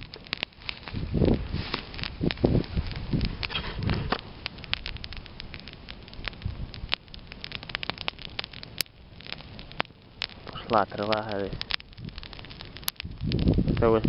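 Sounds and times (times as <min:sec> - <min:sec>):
campfire crackling: 0:00.0 - 0:14.0
sharp popping of fire: 0:00.0 - 0:14.0.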